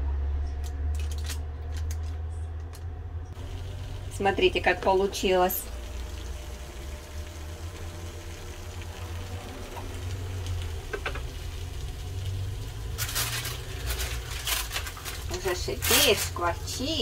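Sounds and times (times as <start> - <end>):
steady low hum: 1.5 - 17.0
fish sizzling on grill: 3.4 - 17.0.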